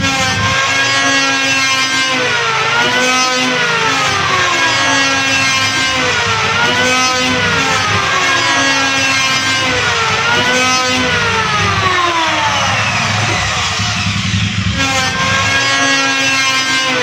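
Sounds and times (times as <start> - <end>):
electric hand planer whining: 0.0 - 17.0.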